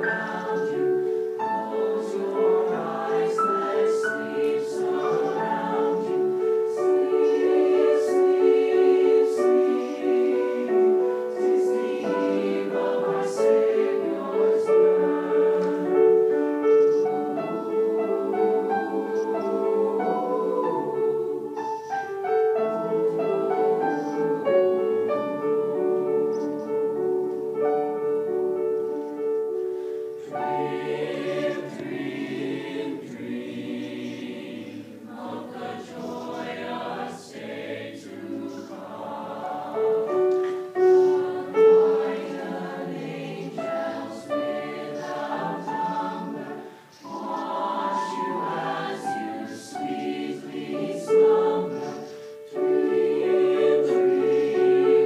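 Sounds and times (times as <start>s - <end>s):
grand piano accompaniment: 0.0s - 55.0s
mixed choir singing: 0.0s - 55.0s.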